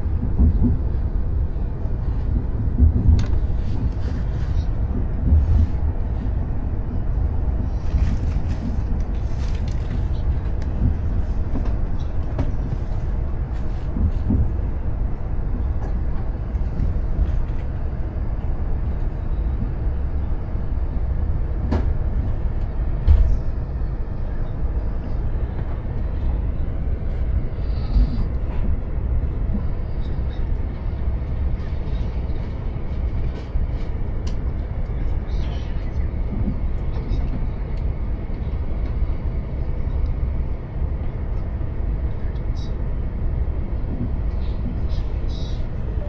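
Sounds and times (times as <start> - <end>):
train cabin rumble: 0.0 - 46.0.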